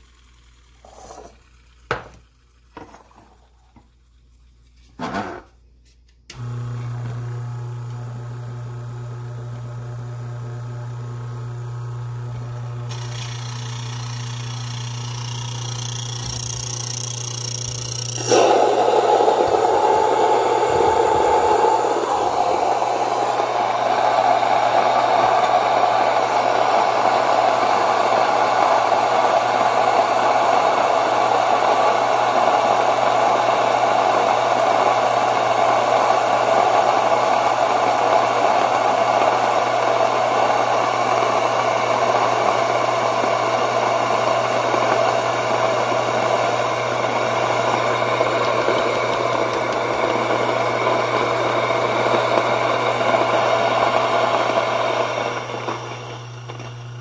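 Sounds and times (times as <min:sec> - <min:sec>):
mill motor humming: 0:06.3 - 0:57.0.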